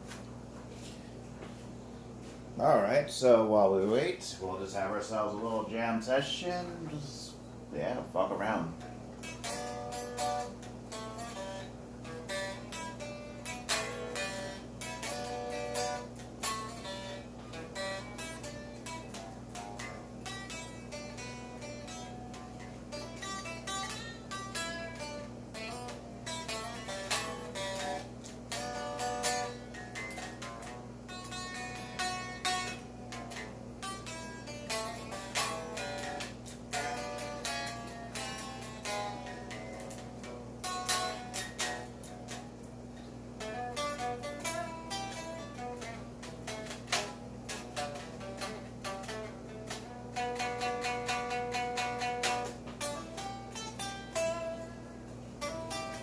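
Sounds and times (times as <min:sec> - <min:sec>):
steady low hum: 0:00.0 - 0:56.0
electric guitar picked notes: 0:07.8 - 0:56.0.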